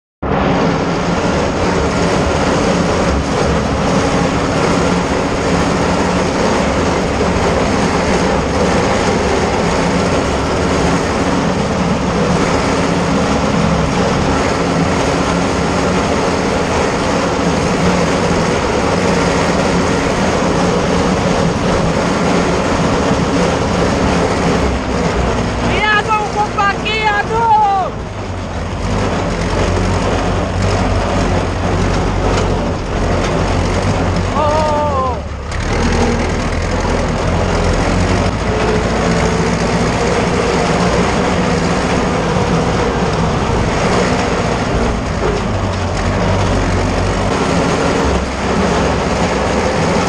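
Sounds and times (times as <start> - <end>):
tractor diesel engine running: 0.2 - 50.0.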